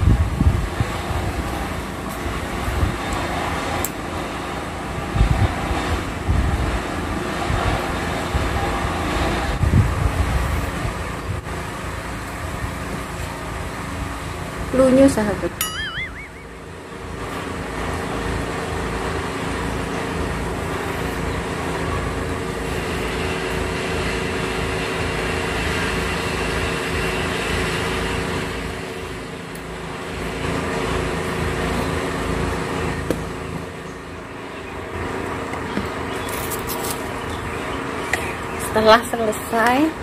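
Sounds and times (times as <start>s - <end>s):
engine humming: 0.0s - 40.0s
traffic noise: 0.0s - 40.0s.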